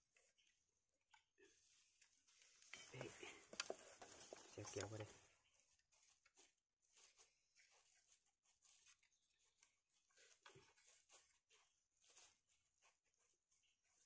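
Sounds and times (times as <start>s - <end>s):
small clicks and rustles: 0.0s - 14.0s.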